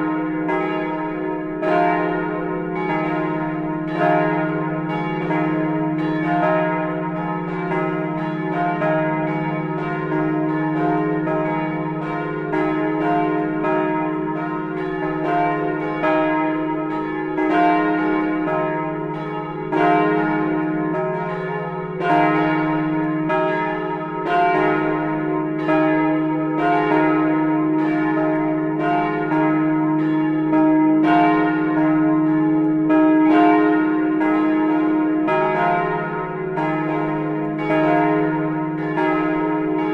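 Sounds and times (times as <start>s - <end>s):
church bells striking: 0.0s - 39.9s.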